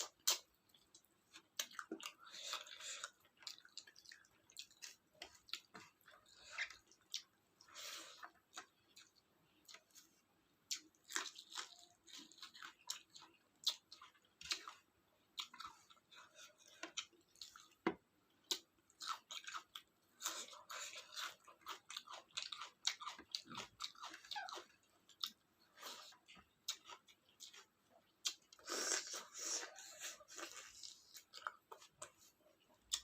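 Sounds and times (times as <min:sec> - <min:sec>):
chewing food: 0:00.0 - 0:33.0.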